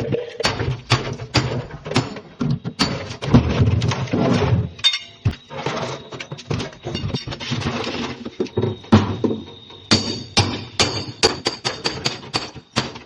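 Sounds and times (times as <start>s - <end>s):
metal knocks and clanks: 0.0s - 13.0s.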